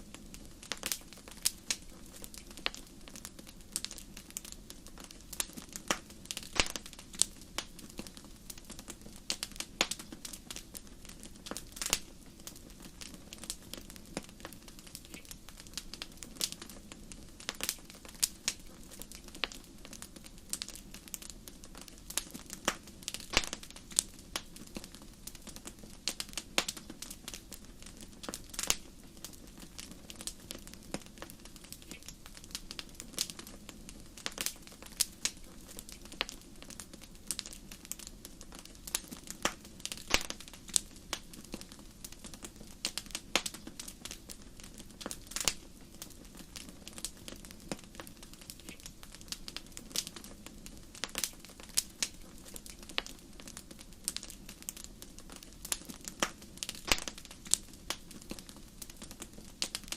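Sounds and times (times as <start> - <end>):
fire crackles and pops: 0.0 - 59.9.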